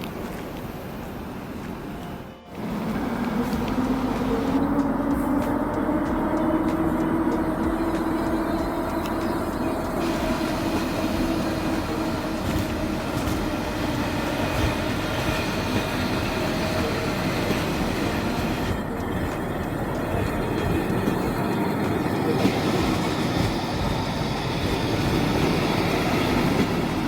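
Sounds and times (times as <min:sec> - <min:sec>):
high-pitched rail noise: 0:00.0 - 0:27.0
train wheels rumbling on rails: 0:00.0 - 0:27.0.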